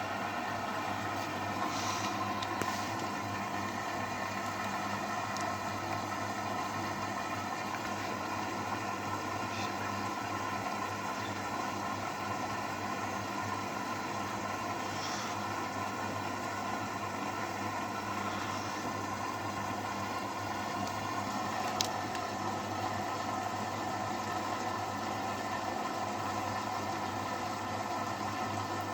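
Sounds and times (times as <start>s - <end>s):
washing machine motor hum: 0.0s - 28.9s.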